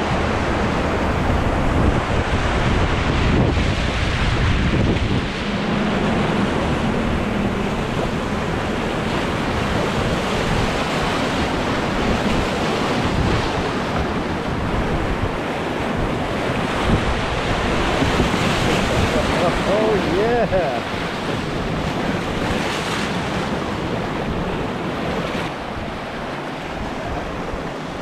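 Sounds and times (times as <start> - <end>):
whitewater rapids rushing: 0.0 - 28.0
wind rumbling on microphone: 0.0 - 28.0.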